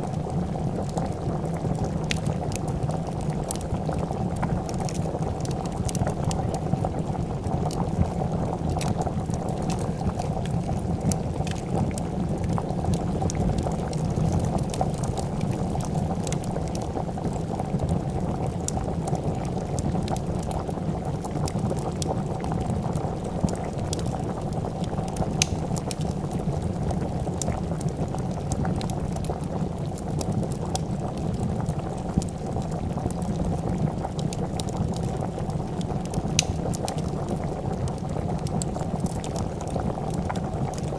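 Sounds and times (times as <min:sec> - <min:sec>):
soup bubbling in a pot: 0:00.0 - 0:40.9
wood fire crackles: 0:00.0 - 0:40.9.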